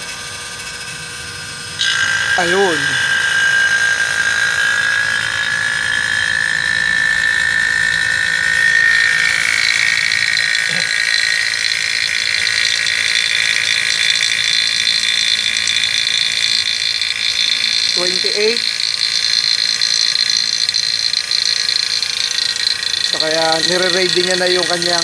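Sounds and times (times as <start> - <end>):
vacuum pump high whine: 0.0 - 25.0.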